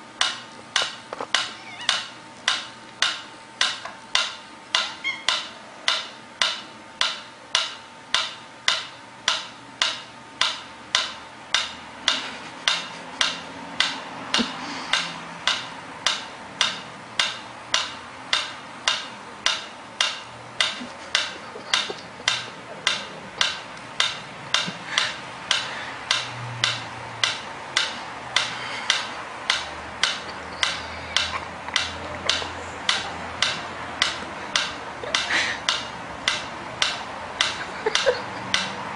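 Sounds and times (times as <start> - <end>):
mechanical ticking: 0.0 - 38.9.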